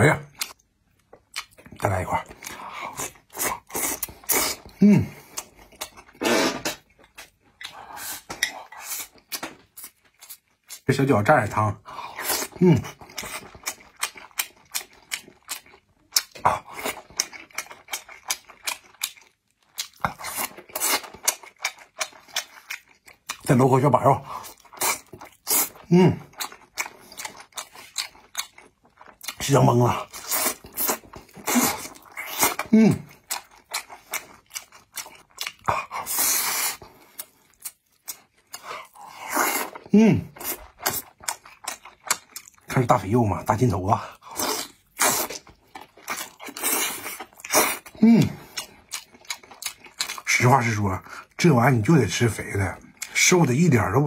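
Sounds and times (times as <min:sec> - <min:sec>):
chewing with wet mouth smacks: 0:00.2 - 0:10.8, 0:12.1 - 0:23.5, 0:24.2 - 0:42.8, 0:44.1 - 0:50.4.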